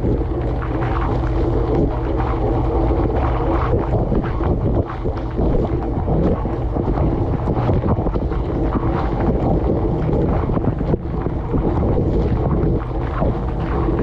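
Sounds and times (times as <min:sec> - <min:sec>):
wash pump rumble: 0:00.0 - 0:14.0.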